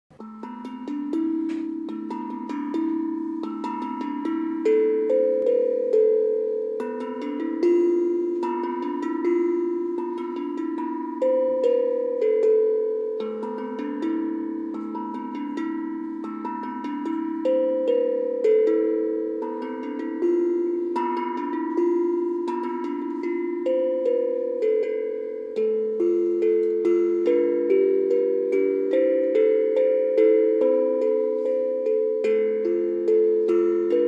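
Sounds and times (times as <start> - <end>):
bell-like percussion melody: 0.1 - 34.0.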